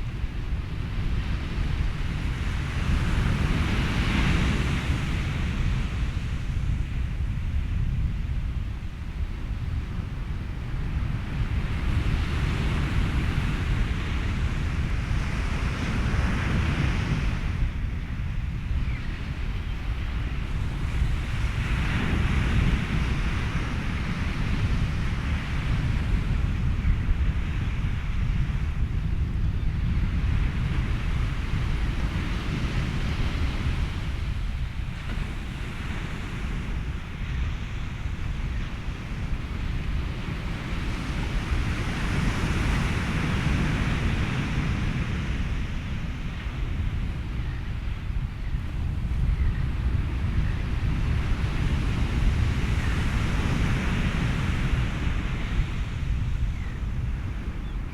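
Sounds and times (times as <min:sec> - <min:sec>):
ocean surf: 0:00.0 - 0:07.7, 0:08.4 - 0:29.3, 0:30.1 - 0:57.9
wind: 0:00.0 - 0:57.9.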